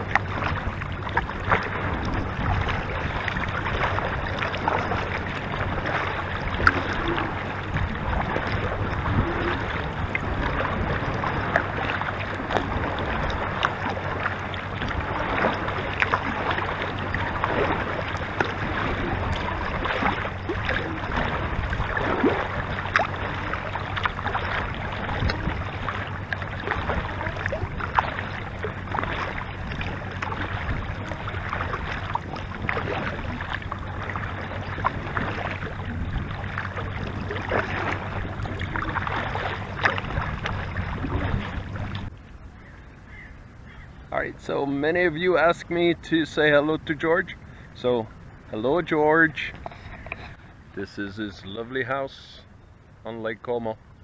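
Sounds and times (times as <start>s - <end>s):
water lapping against kayak: 0.0s - 54.0s.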